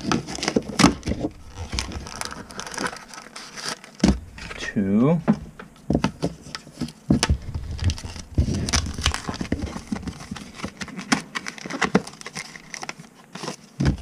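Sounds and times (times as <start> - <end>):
plastic packaging crinkling: 0.0 - 4.6, 6.1 - 14.0.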